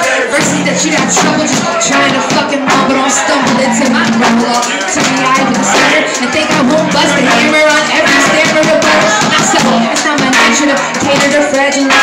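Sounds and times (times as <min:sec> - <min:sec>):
hip-hop beat with bassline: 0:00.0 - 0:12.0
man rapping into a microphone: 0:00.0 - 0:12.0.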